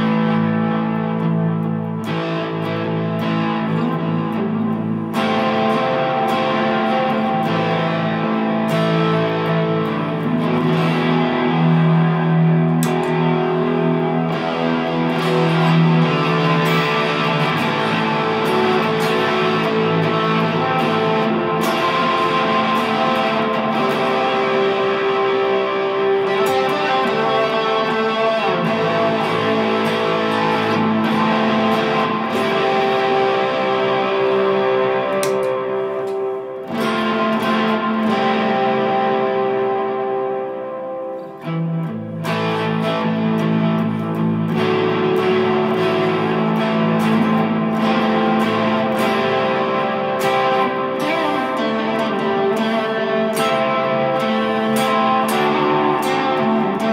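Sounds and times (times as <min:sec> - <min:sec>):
electric guitar notes and chords: 0:00.0 - 0:56.9.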